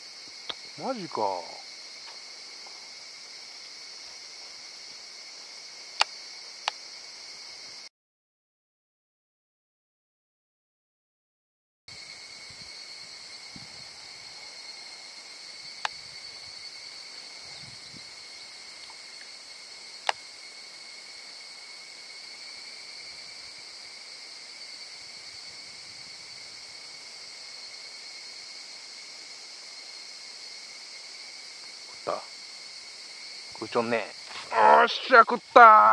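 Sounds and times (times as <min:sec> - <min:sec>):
insects buzzing: 0:00.0 - 0:07.9, 0:11.9 - 0:35.9.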